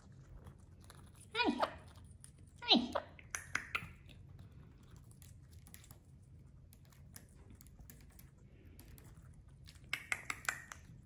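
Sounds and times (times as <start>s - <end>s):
parrot beak clicking and crunching: 0.0s - 11.0s.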